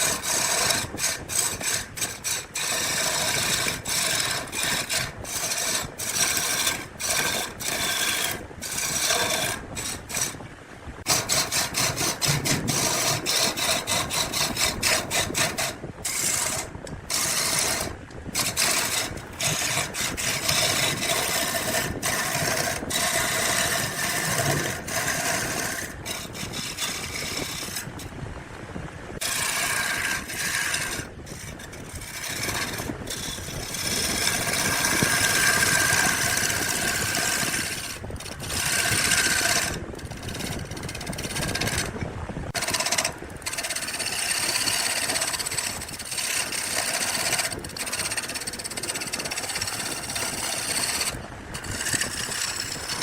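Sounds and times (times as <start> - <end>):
tool rasping wood: 0.0 - 10.4, 11.0 - 28.2, 29.2 - 53.0.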